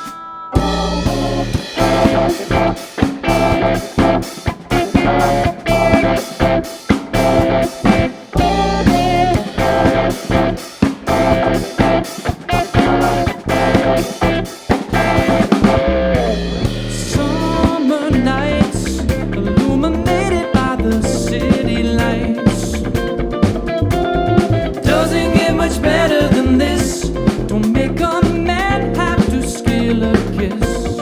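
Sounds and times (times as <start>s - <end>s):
drums and bass beat: 0.0s - 31.0s
funk band instrumental: 0.0s - 31.0s
guitar: 0.0s - 31.0s.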